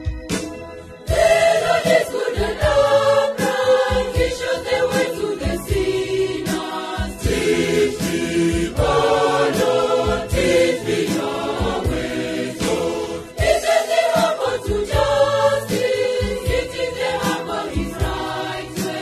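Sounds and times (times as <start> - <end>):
church choir singing a hymn: 1.0 - 19.0.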